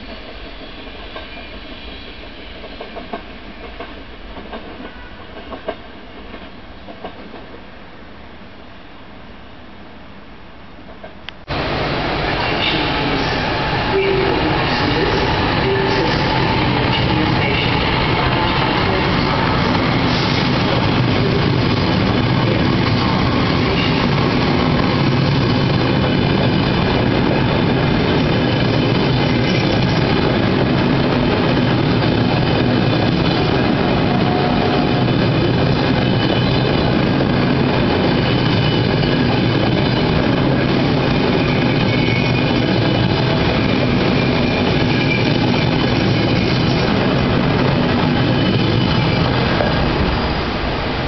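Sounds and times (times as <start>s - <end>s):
train wheels on rails: 0.0s - 7.7s, 10.8s - 51.0s.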